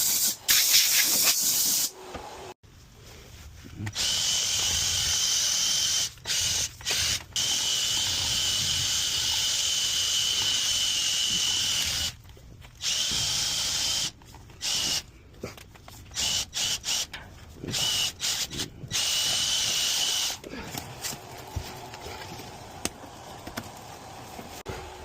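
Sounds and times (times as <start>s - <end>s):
power drill spinning brush: 3.9s - 15.1s, 16.0s - 25.0s.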